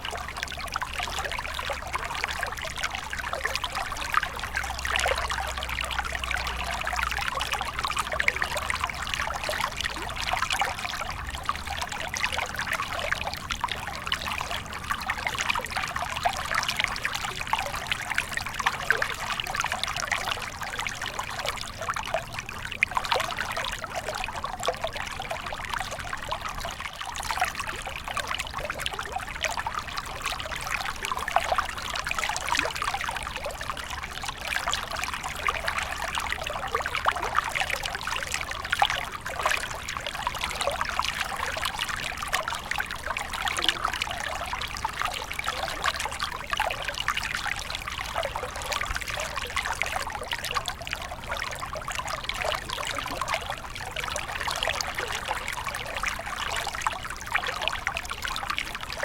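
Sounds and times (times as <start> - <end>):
stream trickling and bubbling: 0.0 - 59.0.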